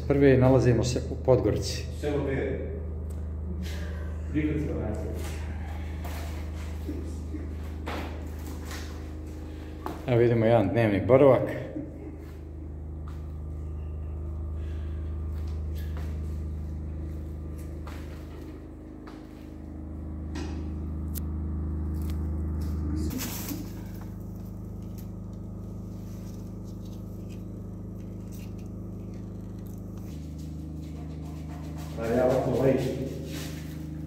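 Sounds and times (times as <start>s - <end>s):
low humming tones: 0.0s - 34.0s.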